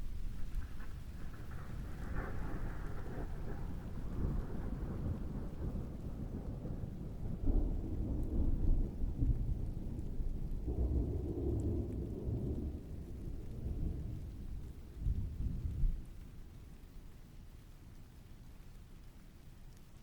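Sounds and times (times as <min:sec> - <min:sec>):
rolling thunder: 0:00.0 - 0:17.2
faint hiss of rain: 0:00.0 - 0:20.0.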